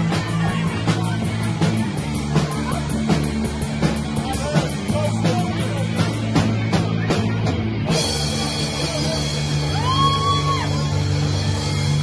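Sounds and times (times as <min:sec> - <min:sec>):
electric guitars and bass: 0:00.0 - 0:12.0.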